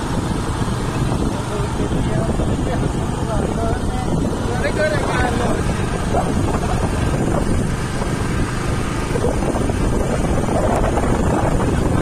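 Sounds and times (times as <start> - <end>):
motorcycle rumble: 0.0 - 12.0
wind buffeting microphone: 0.0 - 12.0.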